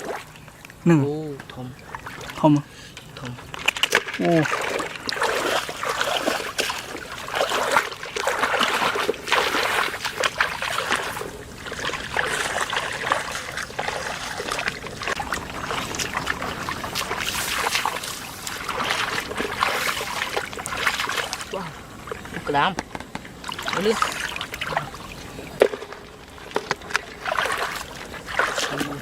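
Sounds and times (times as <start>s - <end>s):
floodwater sloshing and splashing: 0.0s - 29.0s.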